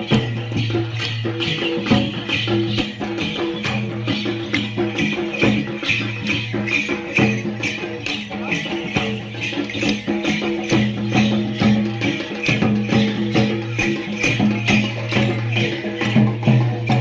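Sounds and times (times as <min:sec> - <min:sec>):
jingling bells: 0:00.0 - 0:17.0
sharp percussion strokes: 0:00.0 - 0:17.0.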